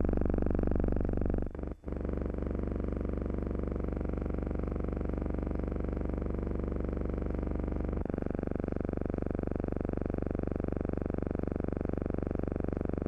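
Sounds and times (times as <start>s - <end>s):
low buzzing hum with flutter: 0.0s - 13.0s.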